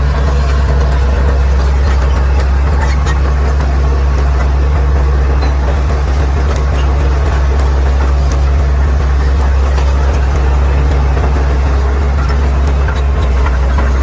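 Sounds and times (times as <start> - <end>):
bulldozer diesel engine drone: 0.0 - 14.0.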